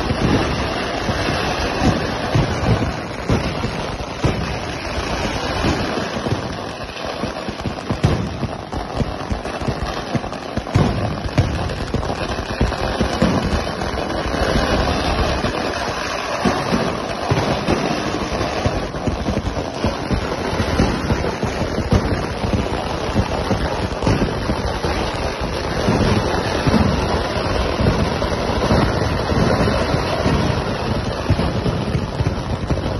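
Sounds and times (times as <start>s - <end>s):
fireworks bangs and crackles: 0.0s - 32.9s.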